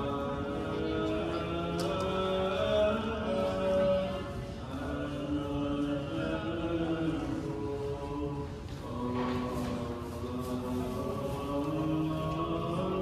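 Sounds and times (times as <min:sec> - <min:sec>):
choral chanting: 0:00.0 - 0:13.0.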